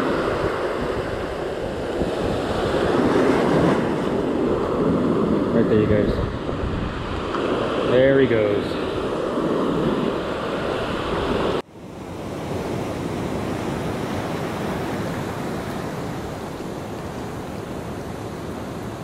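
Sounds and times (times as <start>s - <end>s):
ocean surf on beach: 0.0s - 19.0s
wind on microphone: 0.0s - 19.0s.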